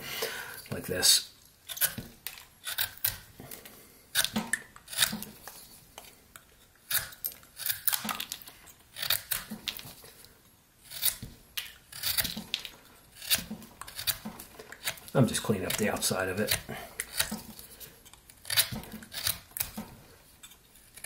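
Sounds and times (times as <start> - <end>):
pocket knife cutting wood shavings: 1.7 - 5.5, 6.8 - 10.0, 10.8 - 21.0.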